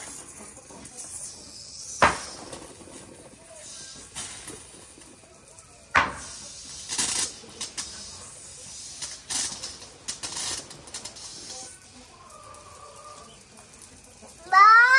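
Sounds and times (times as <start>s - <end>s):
water spraying from garden hose: 0.0s - 14.9s.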